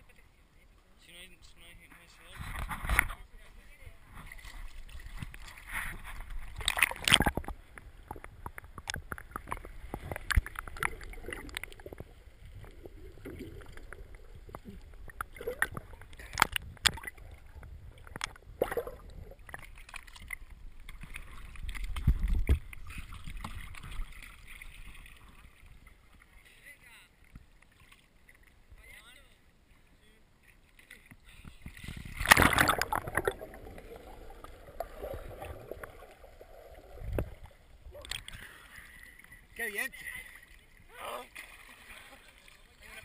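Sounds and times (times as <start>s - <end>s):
water splashing: 1.0s - 28.6s, 30.4s - 43.0s.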